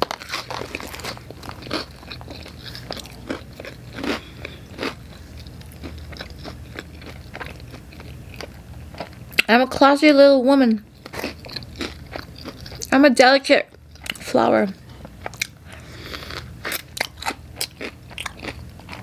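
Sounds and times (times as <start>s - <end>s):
person chewing crunchy food: 0.0s - 9.5s, 10.8s - 13.0s, 13.7s - 14.2s, 14.8s - 19.0s.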